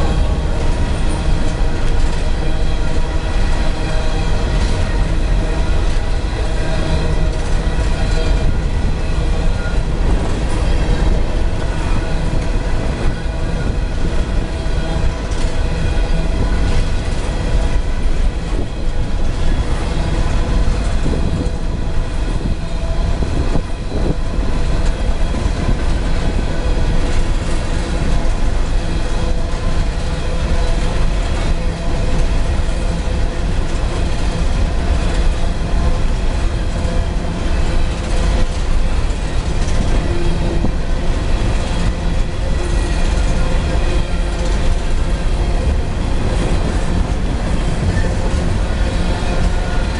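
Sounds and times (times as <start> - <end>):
clacking over rail joints: 0.0 - 49.9
train wheels on rails: 0.0 - 49.9.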